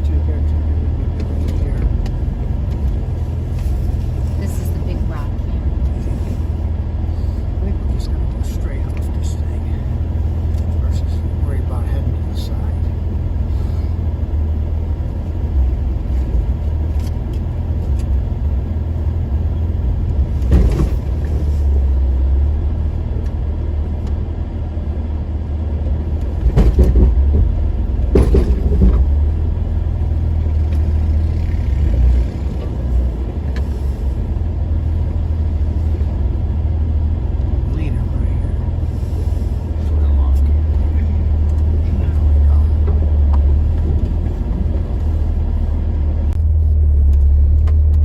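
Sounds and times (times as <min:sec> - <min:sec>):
off-road vehicle engine rumble: 0:00.0 - 0:48.0.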